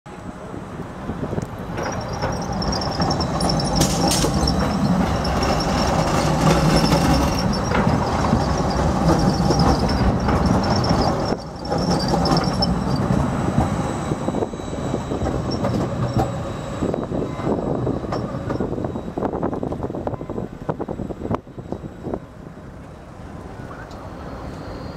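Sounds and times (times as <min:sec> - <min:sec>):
tram wheels rumbling: 0:00.1 - 0:24.9
high wheel squeal: 0:01.6 - 0:22.4, 0:23.4 - 0:24.9.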